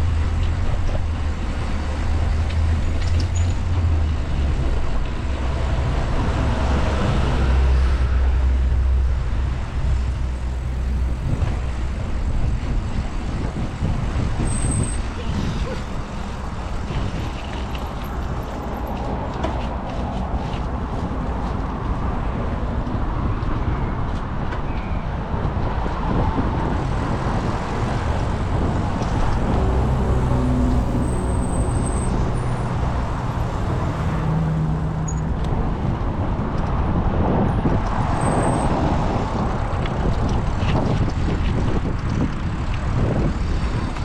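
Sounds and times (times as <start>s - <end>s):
vehicle engine: 0.0s - 24.5s, 25.6s - 44.0s
city street traffic: 0.0s - 44.0s.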